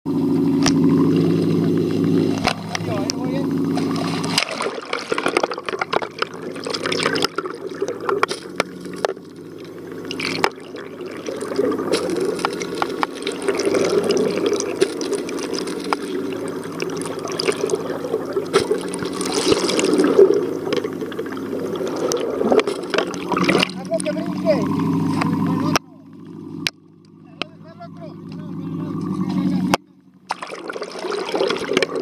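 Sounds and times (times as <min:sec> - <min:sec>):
boat engine hum: 0:00.0 - 0:32.0
water sloshing and bubbling: 0:00.1 - 0:32.0.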